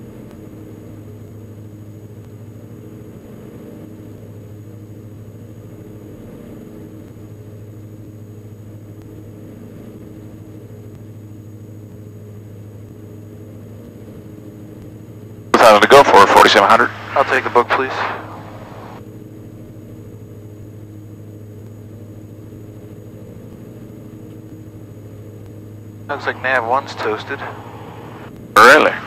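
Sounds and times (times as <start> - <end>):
aircraft engines droning: 0.0 - 29.0.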